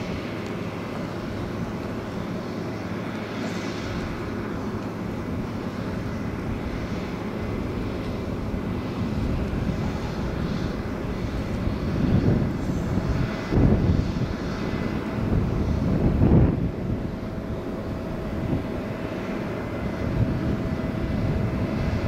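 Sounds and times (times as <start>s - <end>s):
distant engine rumble: 0.0s - 22.0s.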